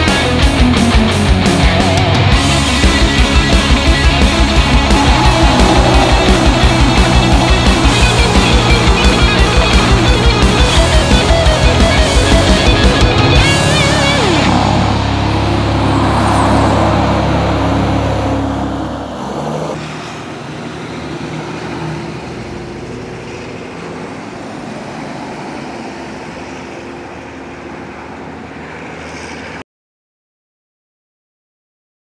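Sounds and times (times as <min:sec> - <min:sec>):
highway traffic noise: 0:00.0 - 0:29.6
truck diesel engine droning: 0:00.0 - 0:29.6.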